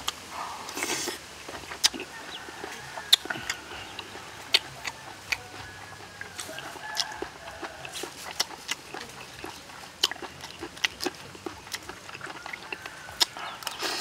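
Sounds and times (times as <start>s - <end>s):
chewing: 0.0s - 14.0s
slurp: 0.0s - 14.0s.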